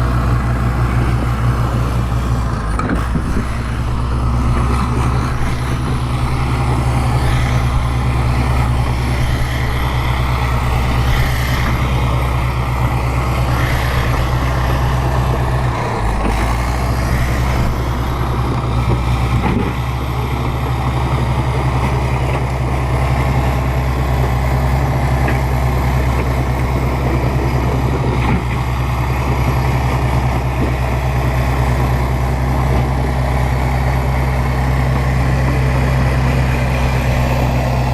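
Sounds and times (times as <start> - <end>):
bulldozer diesel engine droning: 0.0 - 37.9.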